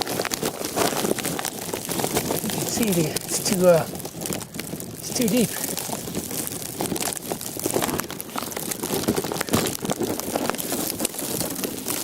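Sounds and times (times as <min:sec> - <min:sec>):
plastic covering crinkling: 0:00.0 - 0:12.0.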